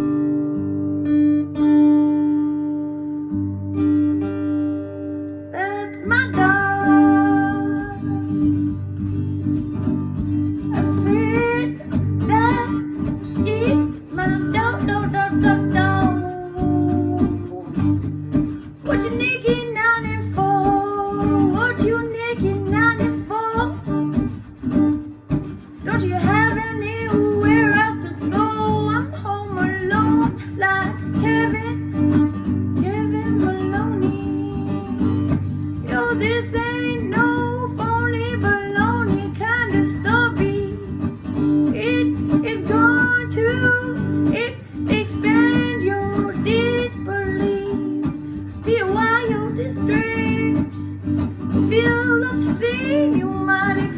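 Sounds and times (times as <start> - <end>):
strummed acoustic guitar: 0.0 - 53.9
person singing: 5.5 - 8.8, 10.6 - 18.1, 18.8 - 24.2, 25.8 - 53.9.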